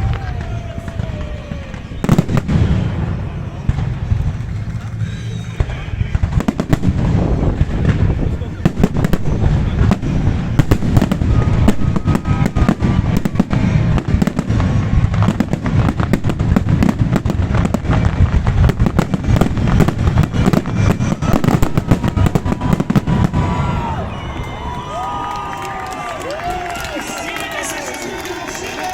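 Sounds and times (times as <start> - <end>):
low rumble: 0.0 - 25.4
fireworks bangs and crackles: 0.0 - 28.9.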